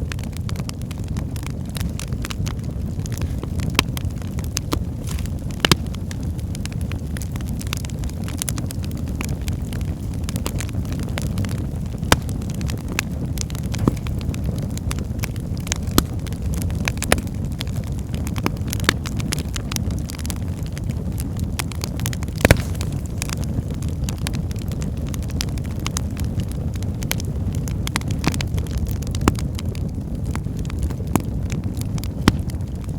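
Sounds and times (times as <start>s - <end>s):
logs crackling and popping: 0.0s - 32.9s
low rumble of flames: 0.0s - 32.9s.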